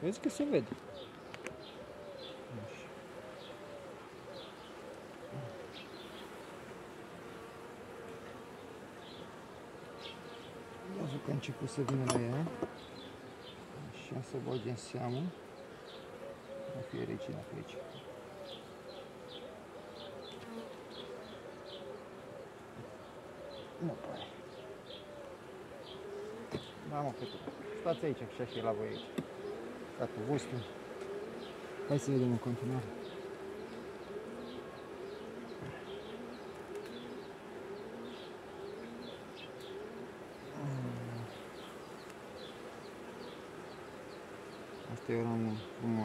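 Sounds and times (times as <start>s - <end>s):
birds calling and chirping: 0.0s - 6.6s, 8.5s - 46.0s
honeybees buzzing: 0.0s - 46.0s.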